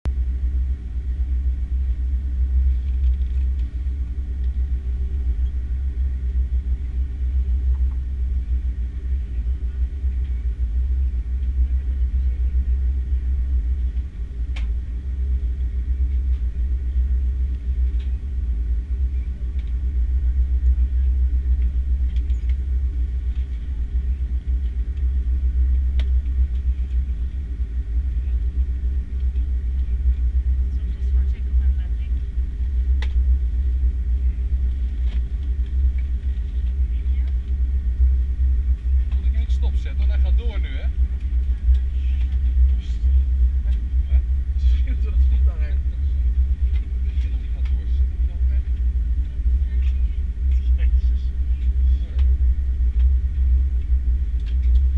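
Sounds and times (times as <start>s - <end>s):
airliner deep rumble: 0.0s - 54.9s.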